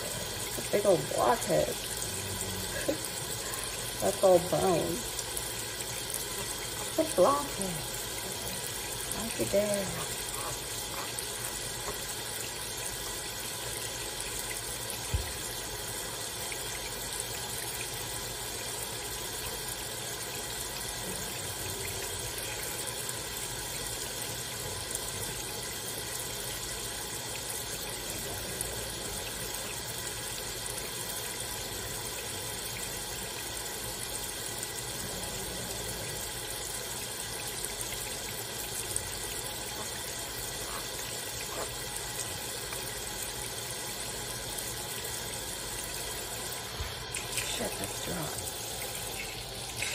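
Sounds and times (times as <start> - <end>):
faucet water pouring into sink: 0.0 - 49.9.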